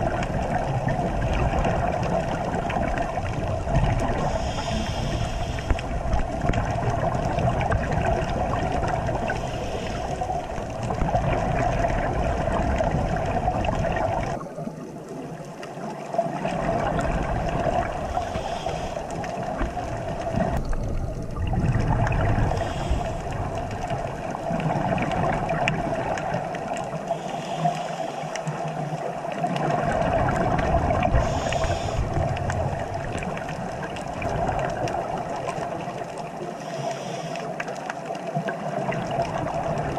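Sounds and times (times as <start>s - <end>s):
underwater gurgling wash: 0.0s - 39.9s.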